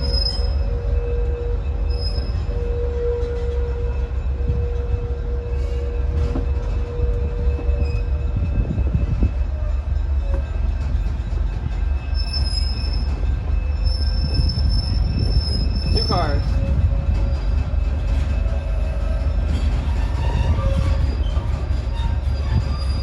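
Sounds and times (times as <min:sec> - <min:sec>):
high-pitched wheel squeal: 0:00.0 - 0:10.7, 0:11.8 - 0:17.5, 0:18.8 - 0:23.0
train rumbling: 0:00.0 - 0:23.0.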